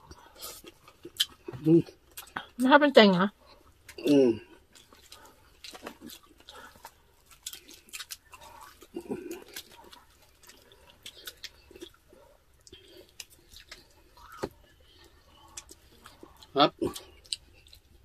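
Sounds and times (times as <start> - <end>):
people chewing crispy pork: 0.0 - 18.0.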